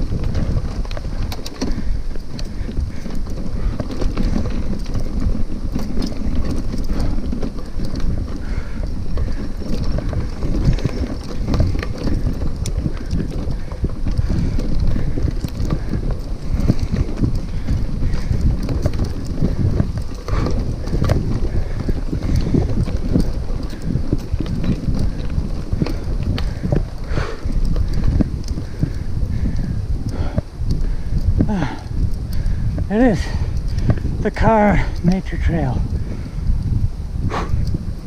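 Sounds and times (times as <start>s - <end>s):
bicycle tyres rumbling on dirt: 0.0s - 38.0s
bike rattling over bumps: 0.0s - 38.0s
wind on microphone: 0.0s - 38.0s.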